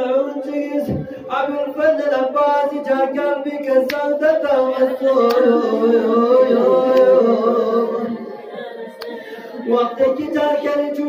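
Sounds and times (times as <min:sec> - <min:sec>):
man chanting a lament: 0:00.0 - 0:08.4, 0:09.5 - 0:11.0.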